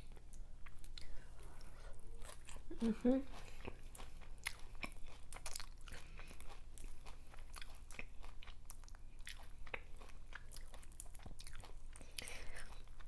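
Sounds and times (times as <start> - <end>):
person chewing wetly: 0.0 - 13.0.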